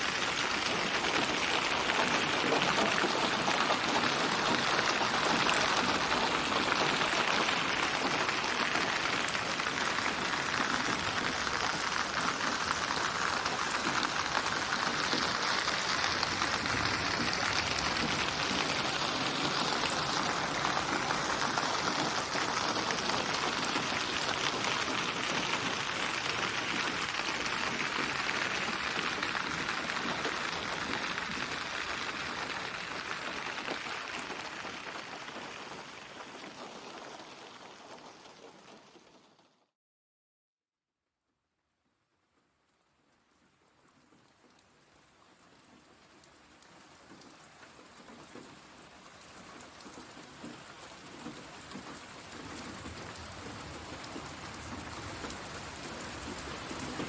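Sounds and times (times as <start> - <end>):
steady rain: 0.0 - 39.7, 42.2 - 57.0.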